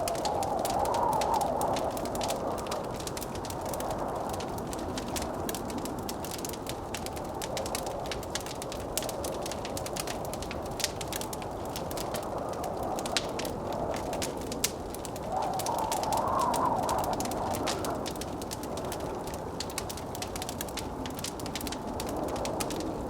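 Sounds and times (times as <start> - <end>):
blizzard wind: 0.0 - 23.0
wood fire crackling and popping: 0.0 - 23.0.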